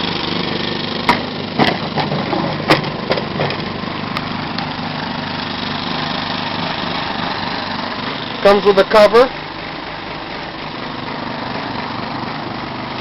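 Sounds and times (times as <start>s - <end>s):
generator running: 0.0s - 13.0s.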